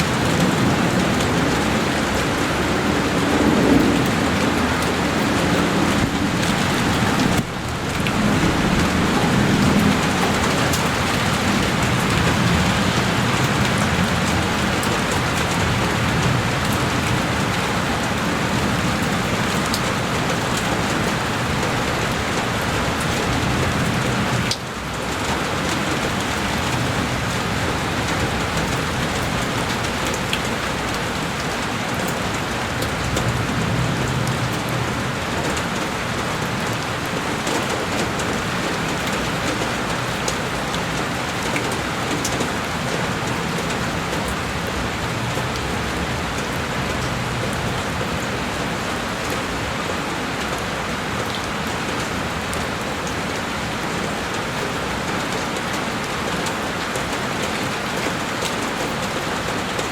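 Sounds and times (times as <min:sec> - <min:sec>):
heavy rain on a window pane: 0:00.0 - 0:59.9.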